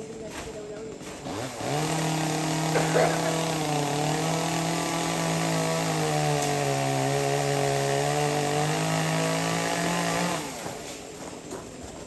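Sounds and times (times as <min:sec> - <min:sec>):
two-stroke chainsaw running: 0:00.9 - 0:12.0.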